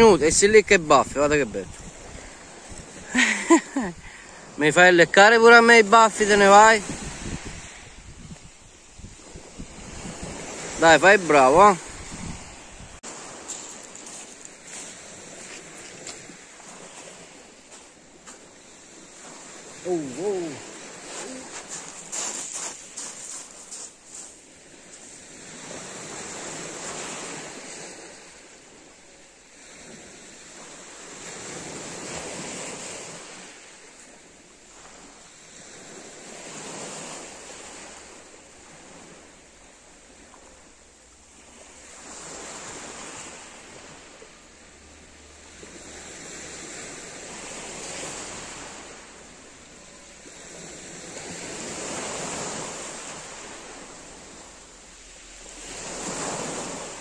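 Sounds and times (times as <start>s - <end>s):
waves breaking on pebbles: 0.0s - 28.9s, 29.5s - 44.3s, 45.5s - 57.0s.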